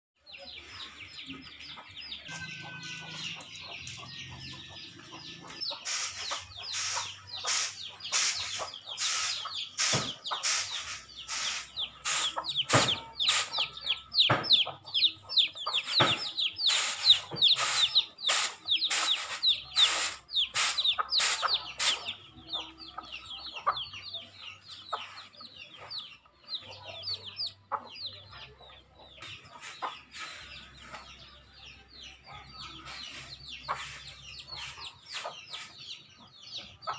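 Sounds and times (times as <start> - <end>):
chicks peeping: 0.2 - 36.9
hen clucking: 0.2 - 36.9.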